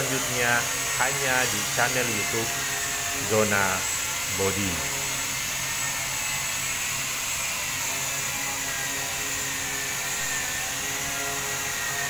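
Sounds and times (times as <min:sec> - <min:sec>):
machine whir with high whine: 0:00.0 - 0:12.0.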